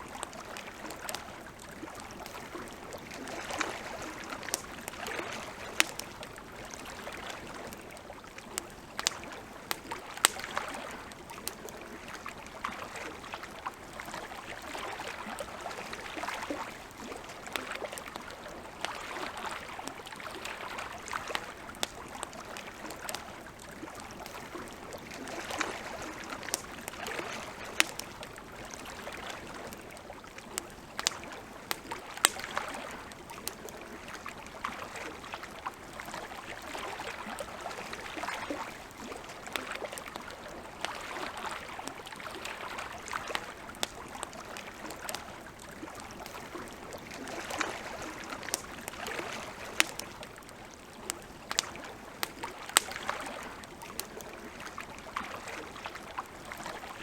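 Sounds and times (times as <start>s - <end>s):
campfire crackling and popping: 0.0s - 57.0s
lake water lapping: 0.0s - 57.0s.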